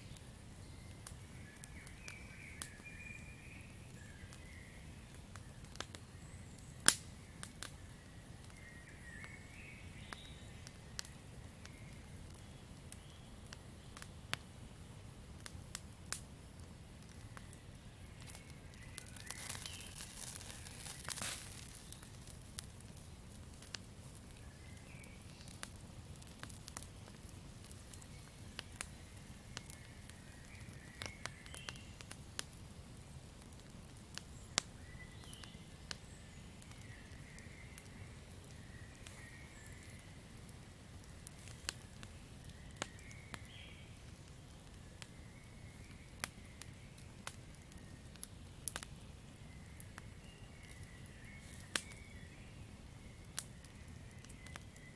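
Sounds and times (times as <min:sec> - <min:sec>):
campfire crackling and popping: 0:00.0 - 0:54.9
low rumble of flames: 0:00.0 - 0:54.9.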